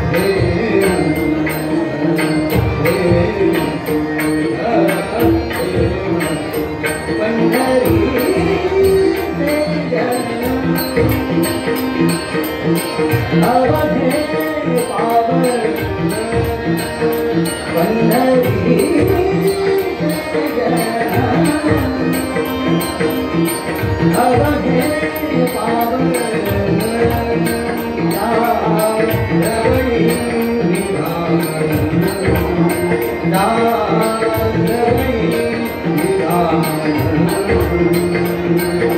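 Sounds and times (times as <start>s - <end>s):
harmonium notes: 0.0s - 38.9s
man singing devotional melody: 0.0s - 38.9s
tabla strokes: 0.0s - 38.9s.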